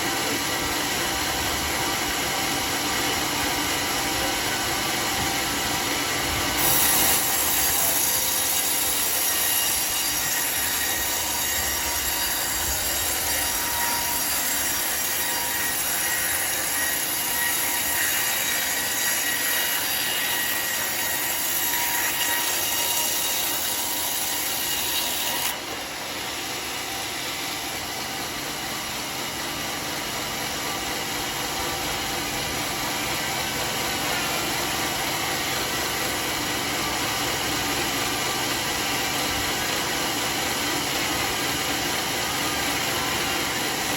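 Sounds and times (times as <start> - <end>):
saw blade whining through wood: 0.0 - 43.9.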